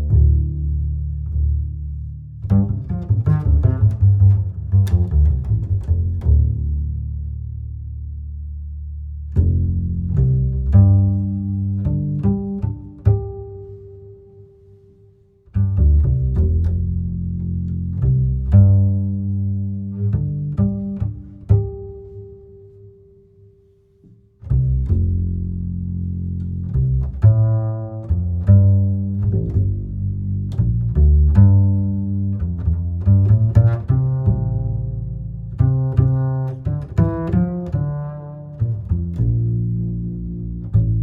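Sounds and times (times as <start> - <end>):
plucked and bowed strings music: 0.0 - 41.0.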